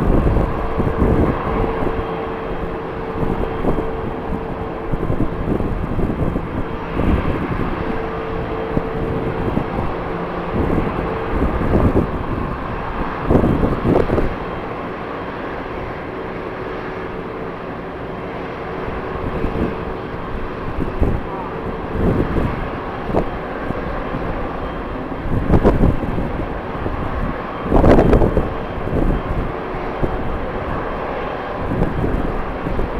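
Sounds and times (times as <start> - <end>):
jet engines roaring: 0.0 - 32.9
wind buffeting microphone: 0.0 - 32.9.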